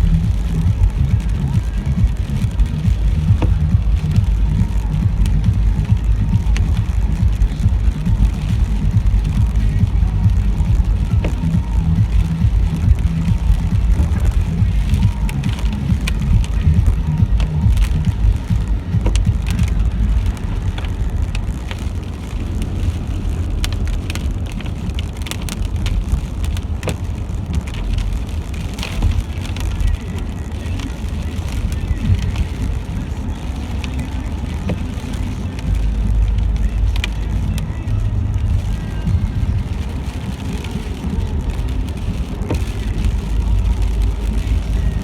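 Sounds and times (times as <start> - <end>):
low rumble: 0.0 - 45.0
rain falling: 0.0 - 45.0
raindrops tapping: 0.0 - 45.0.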